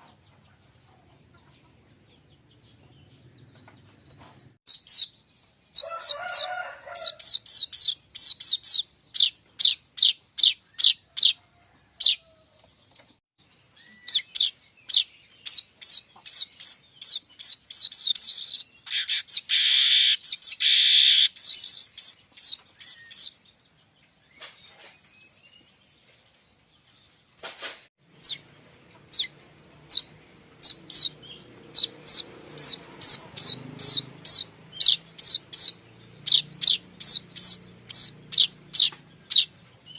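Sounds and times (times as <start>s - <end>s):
bird chirping: 0.0s - 27.4s, 28.0s - 39.9s.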